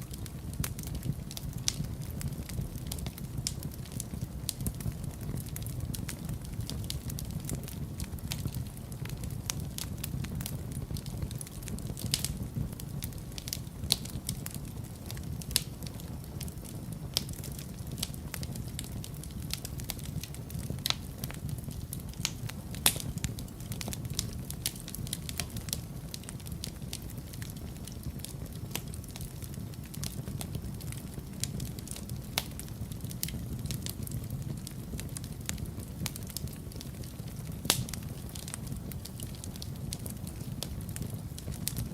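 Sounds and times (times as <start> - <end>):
fire pops and snaps: 0.0 - 41.9
low rumble of flames: 0.0 - 41.9
wood fire crackling: 0.0 - 41.9.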